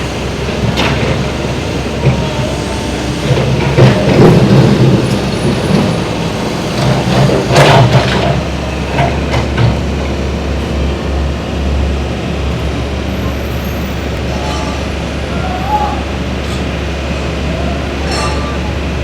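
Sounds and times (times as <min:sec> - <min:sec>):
excavator diesel engine: 0:00.0 - 0:19.0.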